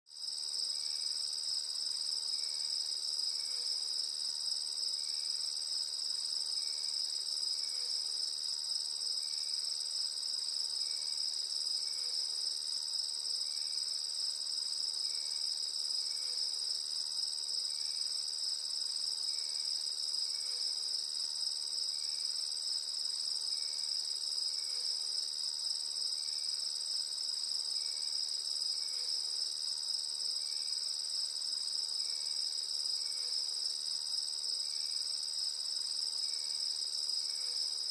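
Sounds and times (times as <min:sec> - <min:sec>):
cricket chorus trilling: 0:00.2 - 0:37.9.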